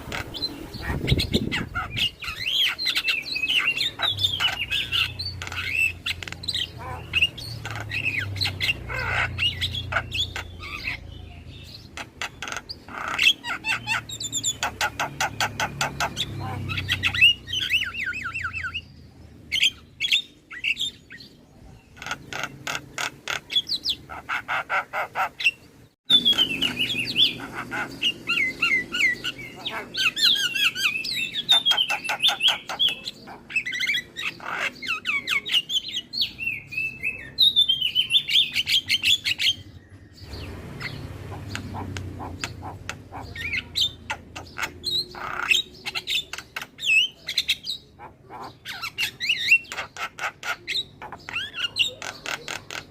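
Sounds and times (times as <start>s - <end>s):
myna bird chattering: 0.0s - 52.9s.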